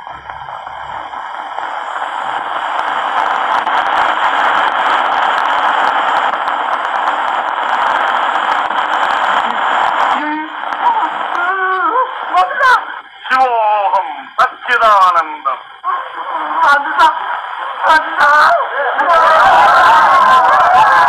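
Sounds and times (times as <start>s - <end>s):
crackles and clicks: 0.0s - 21.0s.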